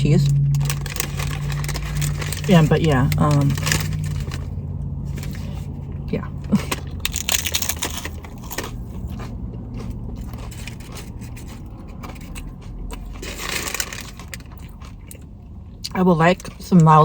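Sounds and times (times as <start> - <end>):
low steady hum: 0.0 - 17.0
person chewing crunchy food: 0.1 - 15.8.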